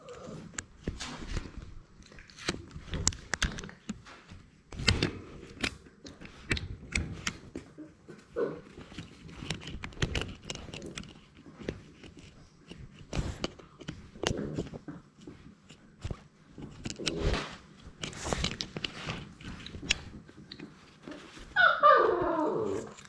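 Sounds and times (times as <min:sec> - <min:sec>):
puppy chewing on a camera: 0:00.0 - 0:21.6.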